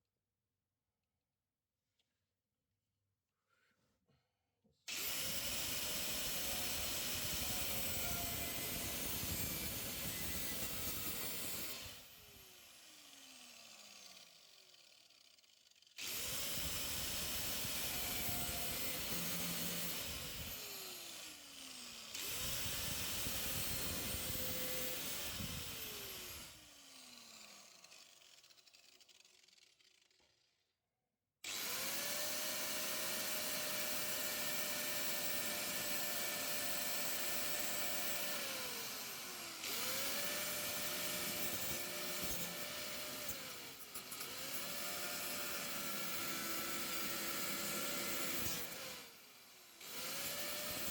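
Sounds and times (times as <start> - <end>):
power tool cutting sheet metal: 4.9 - 30.5, 31.5 - 50.9.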